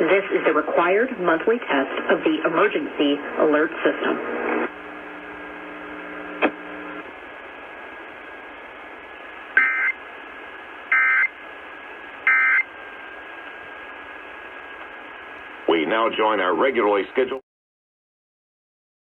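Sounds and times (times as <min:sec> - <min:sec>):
broadcast hiss: 0:00.0 - 0:17.4.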